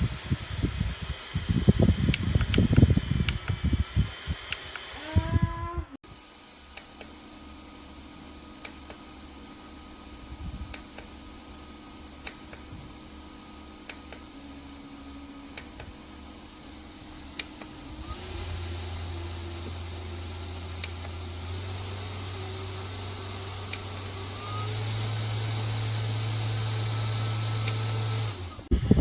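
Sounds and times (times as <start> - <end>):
fan humming and hissing: 0.0 - 29.0.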